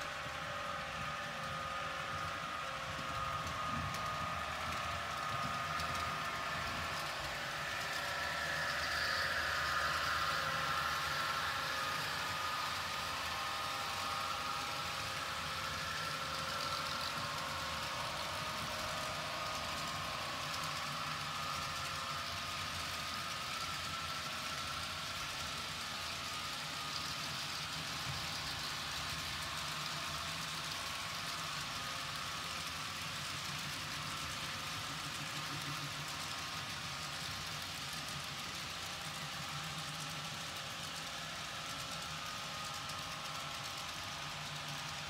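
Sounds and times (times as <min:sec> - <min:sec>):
model train wheels rumbling: 0:00.0 - 0:45.0.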